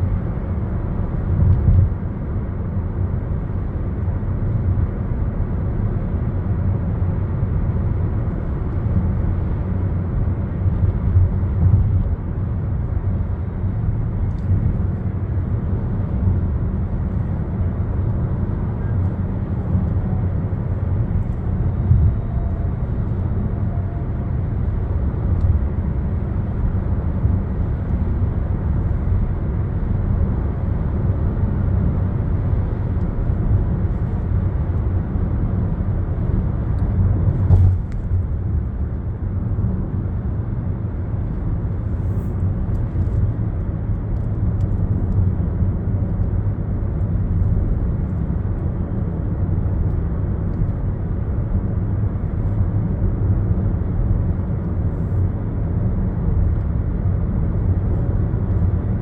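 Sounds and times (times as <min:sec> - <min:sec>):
road vehicle rumbling: 0:00.0 - 0:59.0.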